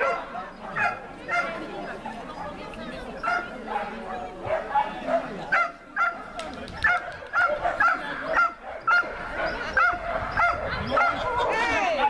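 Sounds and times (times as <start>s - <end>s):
dog barking: 0.0s - 2.6s, 3.2s - 12.0s
voices chattering: 0.0s - 12.0s.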